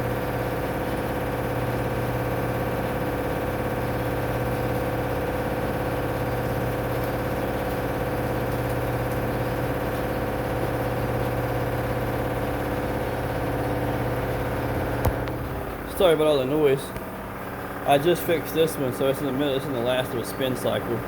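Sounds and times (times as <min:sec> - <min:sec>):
washing machine spin hum: 0:00.0 - 0:21.0.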